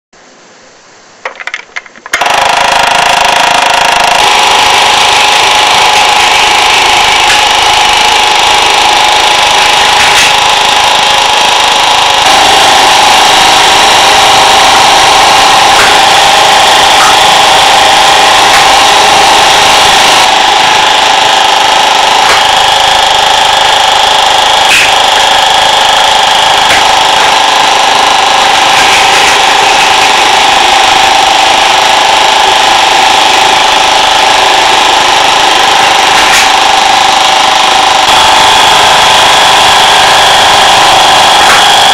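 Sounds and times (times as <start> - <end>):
toy train motors whirring: 2.1 - 41.9.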